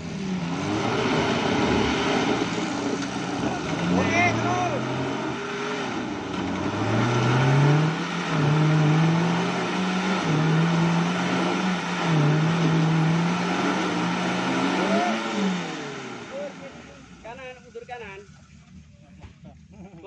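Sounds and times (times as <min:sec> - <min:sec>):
engine revving under load: 0:00.0 - 0:17.4.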